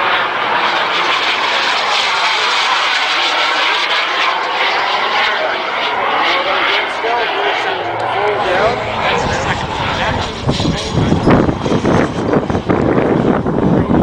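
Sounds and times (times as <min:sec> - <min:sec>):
model jet engine whine: 0:00.0 - 0:14.0.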